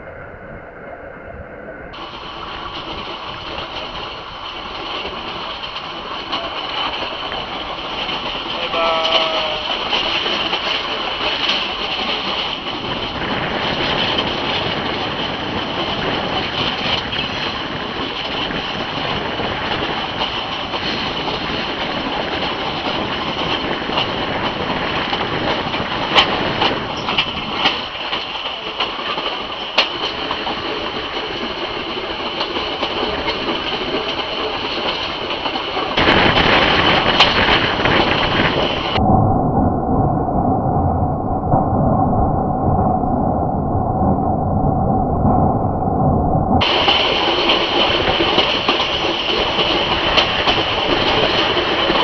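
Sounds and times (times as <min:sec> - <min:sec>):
train running on track: 0:00.0 - 0:39.0, 0:46.6 - 0:52.0.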